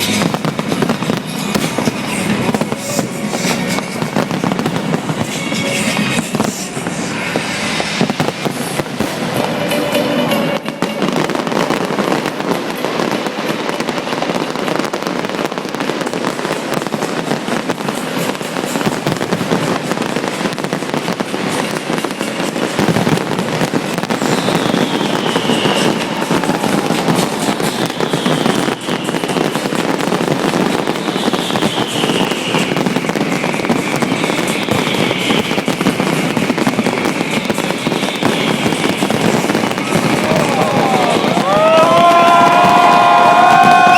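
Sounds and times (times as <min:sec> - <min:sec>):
falling firework whistles: 0:00.0 - 0:43.9
fireworks crackling and banging: 0:00.0 - 0:43.9.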